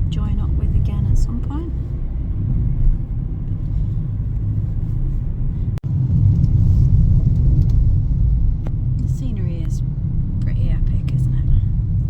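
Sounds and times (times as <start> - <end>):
car engine rumble: 0.0 - 12.0
road noise in car cabin: 0.0 - 12.0.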